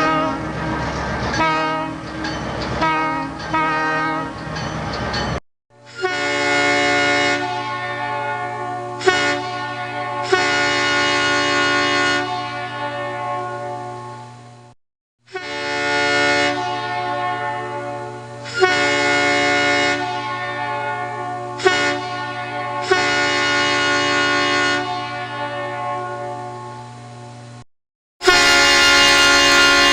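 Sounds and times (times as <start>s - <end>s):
locomotive air horn chord: 0.0s - 4.5s, 5.8s - 27.6s, 28.2s - 29.9s.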